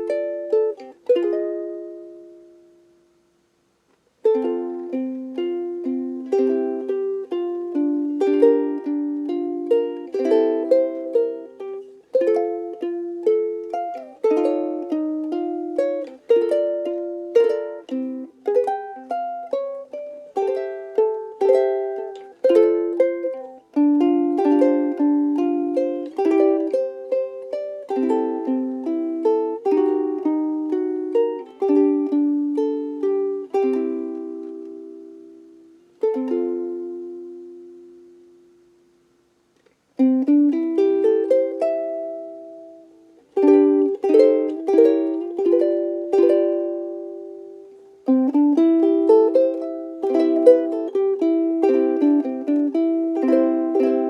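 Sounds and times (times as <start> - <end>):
ukulele playing: 0.0 - 54.0.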